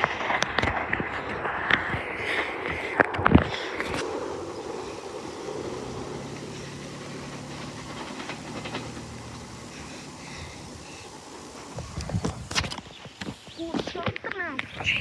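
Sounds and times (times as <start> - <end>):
electric train rumbling: 0.0 - 14.3
steady low hum: 0.7 - 13.7.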